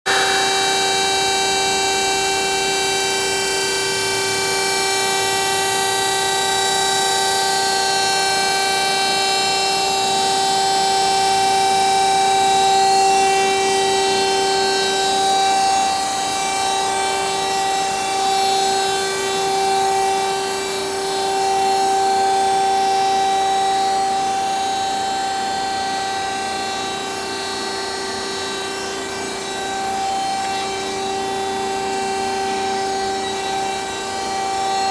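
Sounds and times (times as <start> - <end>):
bandsaw whining: 0.1 - 34.9.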